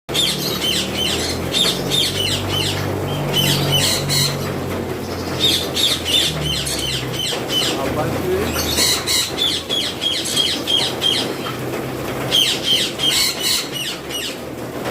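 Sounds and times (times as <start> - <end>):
parakeets squawking: 0.1 - 14.4.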